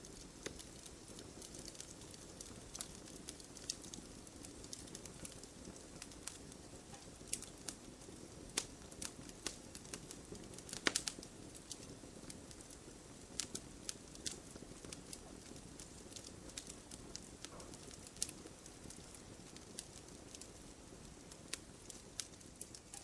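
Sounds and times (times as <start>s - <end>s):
fire crackling and popping: 0.0s - 23.0s
fire hissing: 0.0s - 23.0s.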